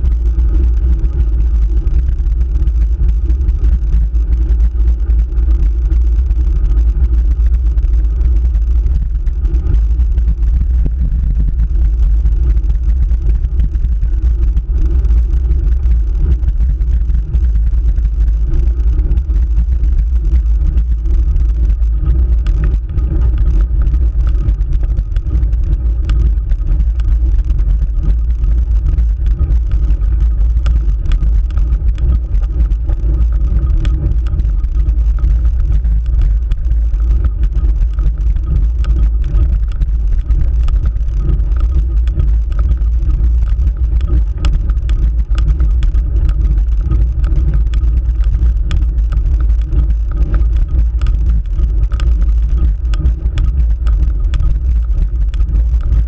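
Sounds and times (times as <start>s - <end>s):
faint ticks: 0.0s - 56.0s
road vibration rumble: 0.0s - 56.0s
wind on microphone: 0.0s - 56.0s.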